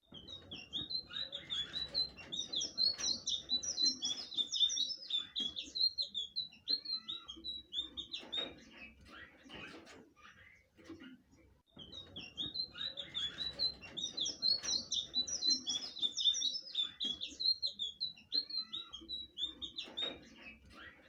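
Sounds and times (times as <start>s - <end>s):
bird warbling song: 0.0s - 21.0s.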